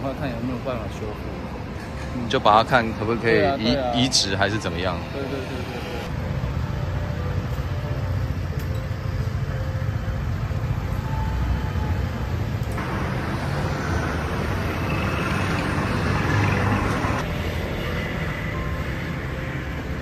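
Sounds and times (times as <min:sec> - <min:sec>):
cars and scooters passing: 0:00.0 - 0:20.0.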